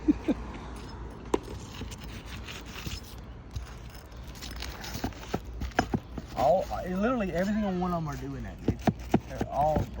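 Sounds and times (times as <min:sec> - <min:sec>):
shingles scraping and crackling: 0:01.4 - 0:10.0.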